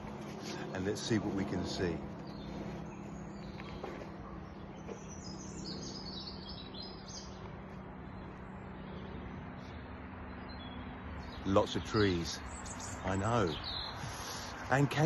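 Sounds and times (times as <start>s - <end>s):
low outdoor background noise: 0.0s - 15.0s
songbirds singing: 0.0s - 15.0s.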